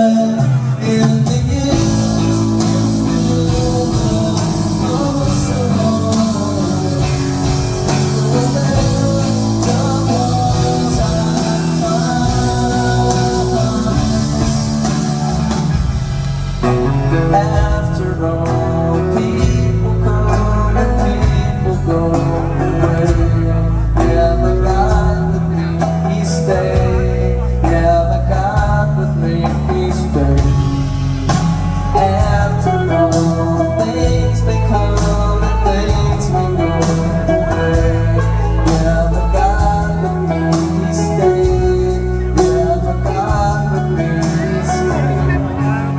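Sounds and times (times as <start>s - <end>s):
live band playing rock music: 0.0s - 45.9s
person singing: 0.0s - 45.9s.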